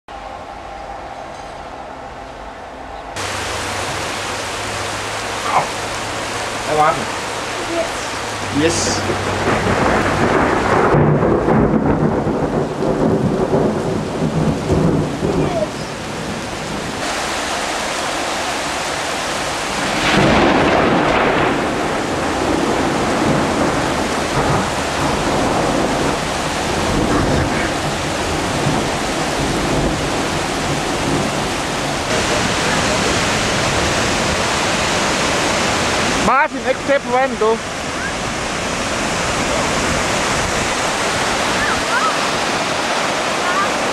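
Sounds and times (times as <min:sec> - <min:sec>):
heavy rain pouring: 0:00.1 - 0:43.9
thunder rumbling: 0:00.1 - 0:43.9.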